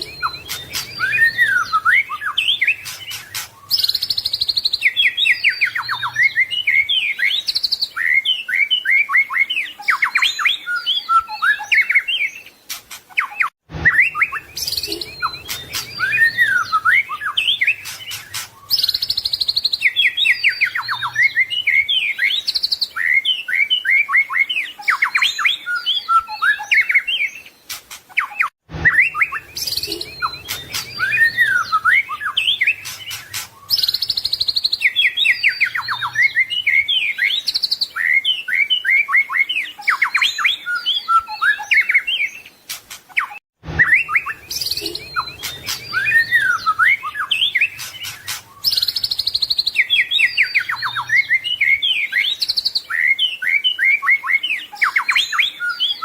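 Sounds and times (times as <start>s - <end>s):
songbird whistling and trilling: 0.0s - 56.0s.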